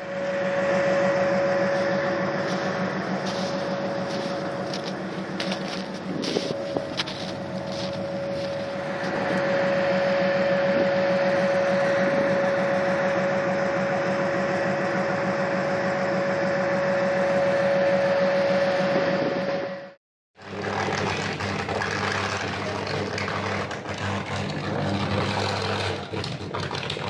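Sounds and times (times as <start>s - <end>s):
held whine: 0.0s - 27.0s
locomotive engine drone: 0.0s - 27.0s.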